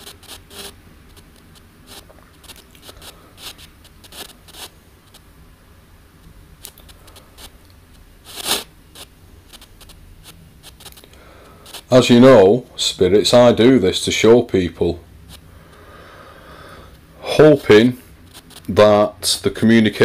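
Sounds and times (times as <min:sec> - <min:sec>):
crackling radio static blips: 0:00.0 - 0:20.0
low hiss: 0:00.0 - 0:20.0.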